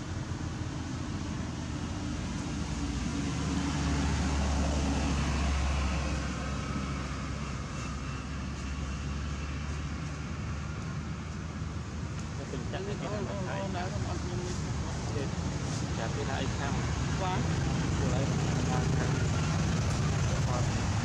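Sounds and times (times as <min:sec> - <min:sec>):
outdoor background noise: 0:00.0 - 0:21.0
vehicle engine rumble: 0:00.0 - 0:21.0.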